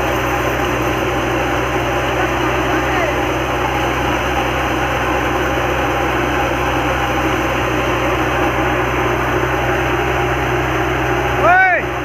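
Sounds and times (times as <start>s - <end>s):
thresher running: 0.0s - 12.0s.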